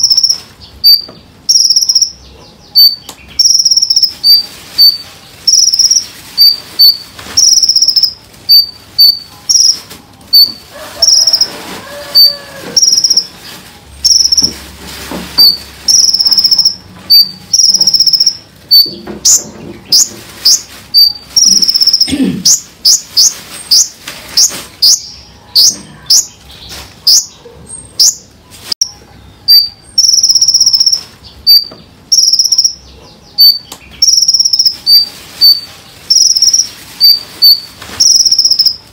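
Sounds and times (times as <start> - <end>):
songbird chirping: 0.0 - 14.6, 15.4 - 38.9.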